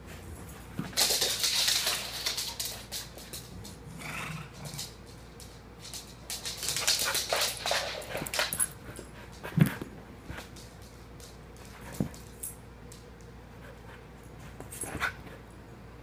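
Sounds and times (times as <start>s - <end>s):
dogs scuffling: 0.0s - 13.4s.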